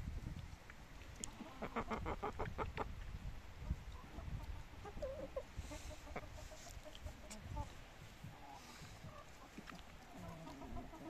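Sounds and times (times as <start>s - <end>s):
hen clucking: 1.2s - 2.9s, 3.6s - 11.0s.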